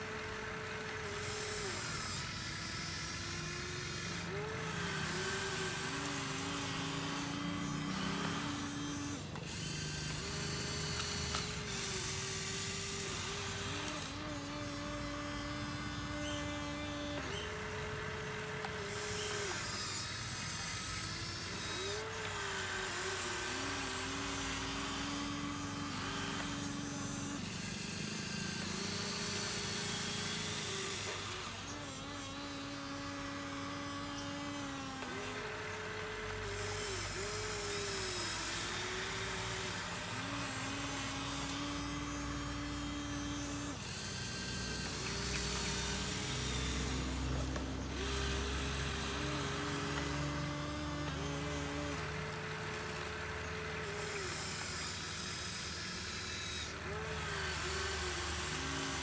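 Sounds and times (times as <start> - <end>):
small electric motors whining: 0.0 - 59.0.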